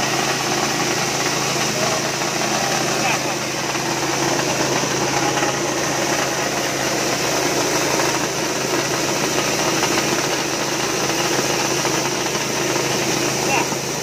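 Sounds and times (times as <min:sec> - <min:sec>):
coffee huller hulling beans: 0:00.0 - 0:14.0
small petrol engine running: 0:00.0 - 0:14.0.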